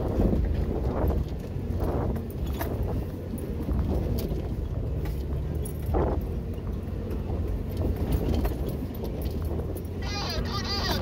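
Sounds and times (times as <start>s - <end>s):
body and suspension rattling: 0.0s - 11.0s
car engine running low: 0.0s - 11.0s.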